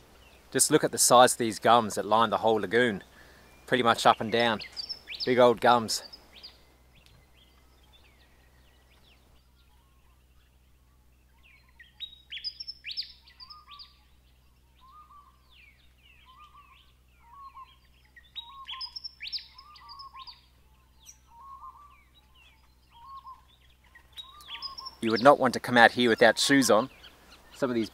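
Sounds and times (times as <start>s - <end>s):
birds chirping: 0.0s - 27.9s
bird repeated low notes: 3.0s - 27.9s.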